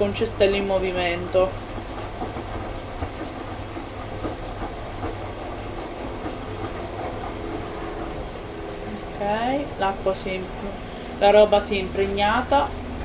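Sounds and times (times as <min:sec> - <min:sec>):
motor hum: 0:00.0 - 0:13.0
washing machine drum turning: 0:00.0 - 0:13.0
water filling: 0:00.0 - 0:13.0.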